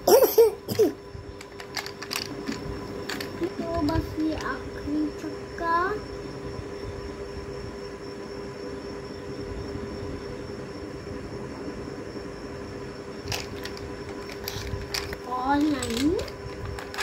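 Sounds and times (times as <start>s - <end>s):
faint constant tone: 0.0s - 17.0s
low rumbling hum: 0.0s - 17.0s.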